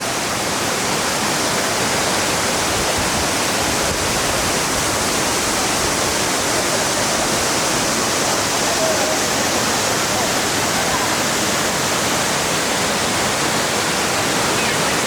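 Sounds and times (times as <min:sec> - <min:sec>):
waterfall pouring into pool: 0:00.0 - 0:15.0.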